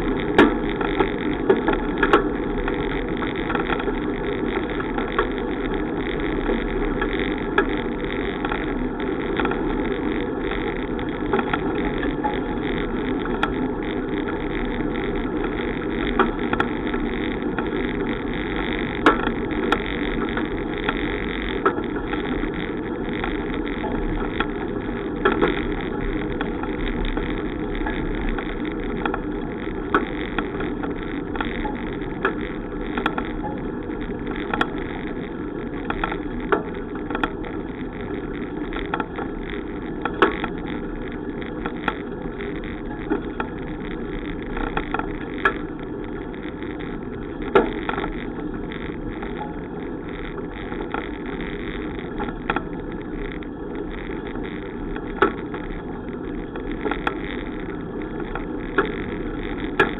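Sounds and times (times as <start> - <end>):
bicycle tyre rumble: 0.0 - 59.9
sharp clicks and knocks from bumps: 0.0 - 59.9.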